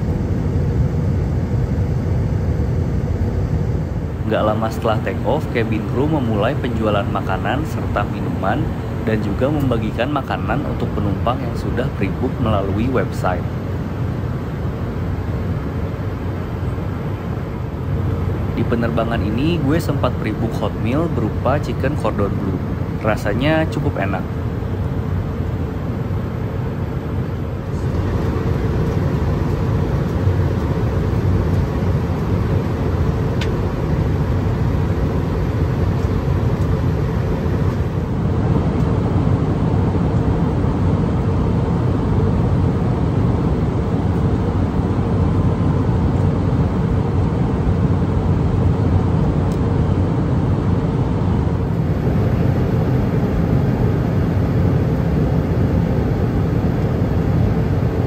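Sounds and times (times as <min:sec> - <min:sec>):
airplane cabin engine roar: 0:00.0 - 0:58.0
faint steady hum: 0:00.0 - 0:58.0.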